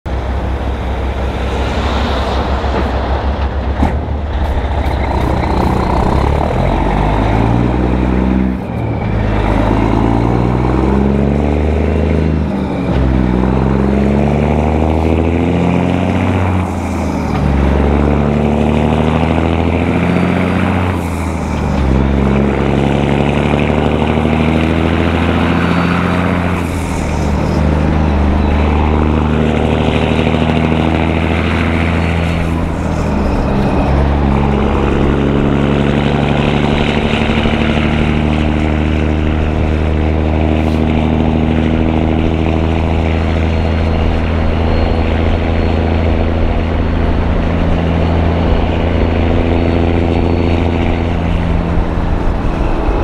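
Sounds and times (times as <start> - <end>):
diesel truck engine revving: 0.1 - 53.0.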